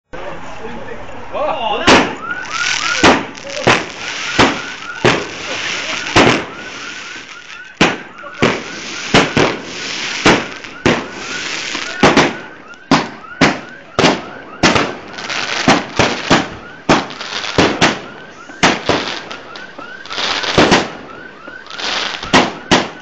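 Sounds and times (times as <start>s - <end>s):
fireworks hissing and crackling: 0.4s - 23.0s
fireworks bangs: 1.7s - 23.0s.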